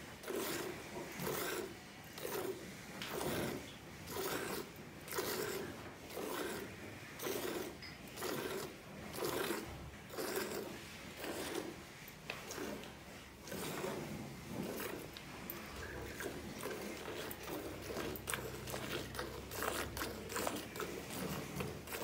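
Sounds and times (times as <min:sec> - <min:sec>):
milk squirting into metal pail: 0:00.2 - 0:22.0.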